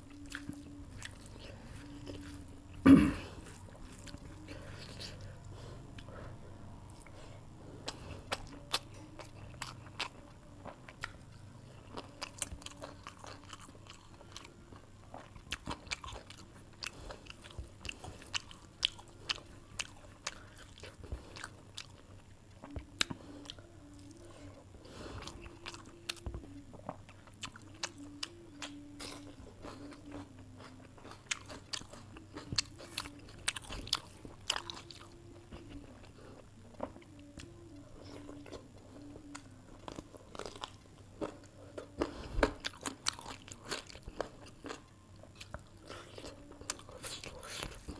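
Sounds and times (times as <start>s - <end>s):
person chewing food: 0.0s - 47.9s.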